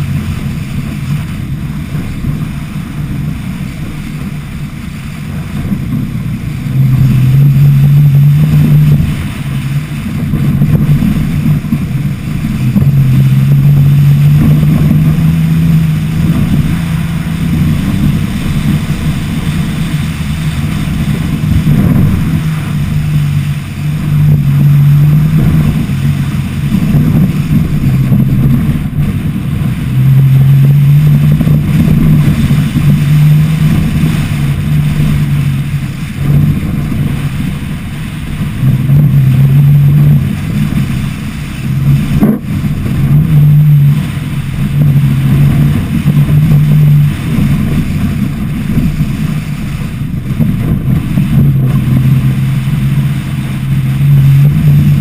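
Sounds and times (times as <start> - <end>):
pickup engine pulling hard: 0.0 - 55.0
wind rushing over microphone: 0.0 - 55.0.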